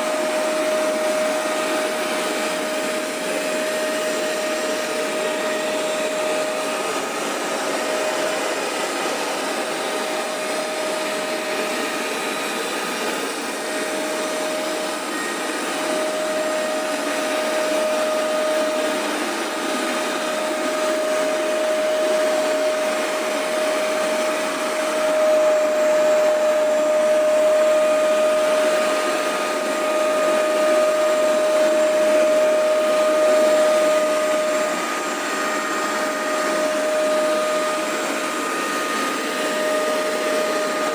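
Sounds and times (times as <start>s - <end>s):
carpet cleaner motor whine: 0.0s - 40.9s.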